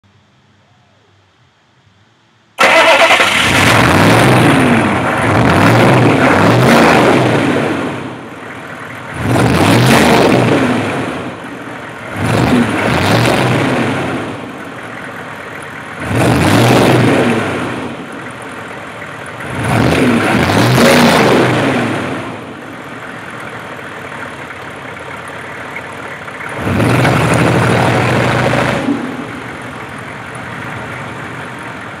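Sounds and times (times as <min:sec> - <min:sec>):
diesel engine idling and revving: 0:02.6 - 0:32.0.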